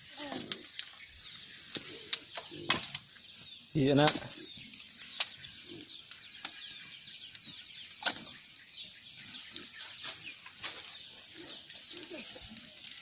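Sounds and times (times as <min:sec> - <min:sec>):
small birds chirping: 0:00.0 - 0:13.0
wood fire cracking: 0:00.0 - 0:13.0.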